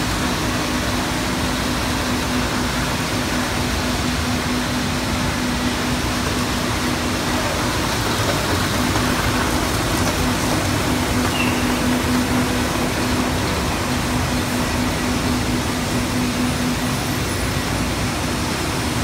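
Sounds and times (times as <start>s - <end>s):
machine hiss and rumble: 0.0s - 19.0s.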